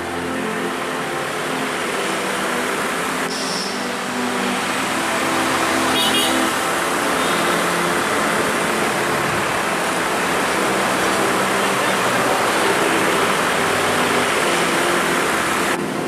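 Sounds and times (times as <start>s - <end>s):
passing vehicles hiss: 0.0s - 16.0s.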